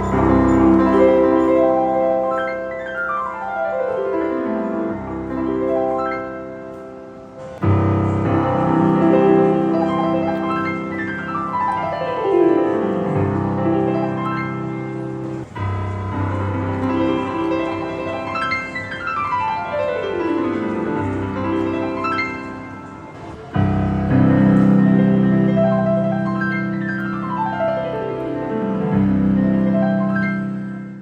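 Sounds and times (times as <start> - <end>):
digital piano fast runs: 0.0 - 31.0.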